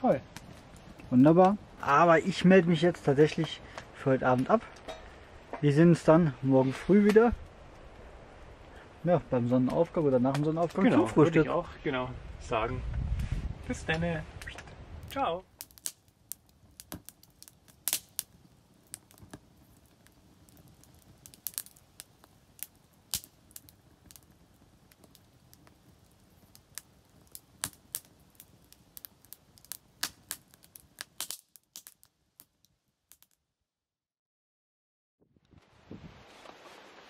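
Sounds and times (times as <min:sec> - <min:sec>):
hiss of flames: 0:00.0 - 0:32.1, 0:35.5 - 0:37.0
campfire crackling: 0:00.0 - 0:33.4, 0:35.5 - 0:37.0.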